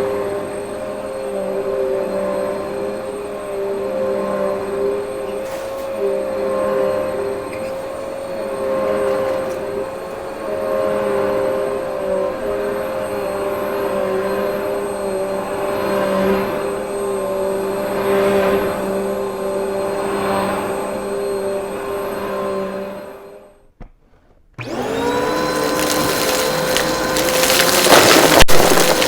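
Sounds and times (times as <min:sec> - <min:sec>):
vacuum cleaner motor: 0:00.0 - 0:23.5, 0:24.6 - 0:29.0.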